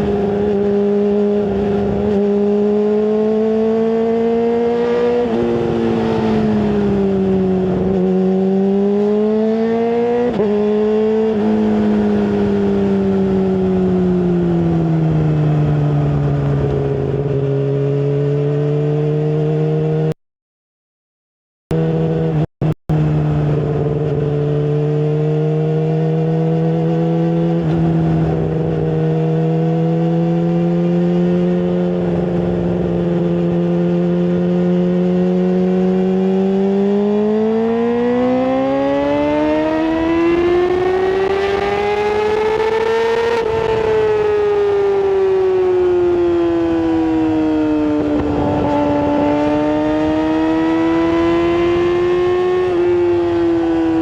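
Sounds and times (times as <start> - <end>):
motorcycle engine running: 0.0 - 20.1, 21.7 - 54.0.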